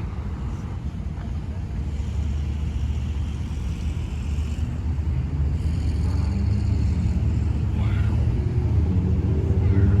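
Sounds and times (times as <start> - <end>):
diesel locomotive engine rumbling: 0.0 - 10.0.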